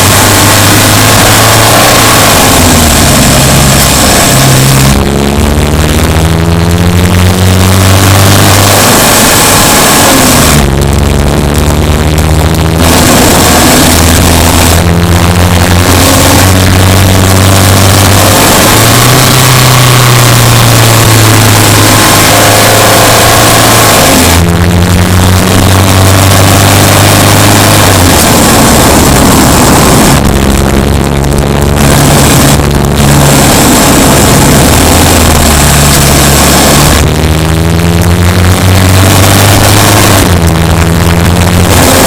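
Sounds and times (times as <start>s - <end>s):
car engine running: 0.0s - 42.0s
dense rushing noise: 0.0s - 42.0s.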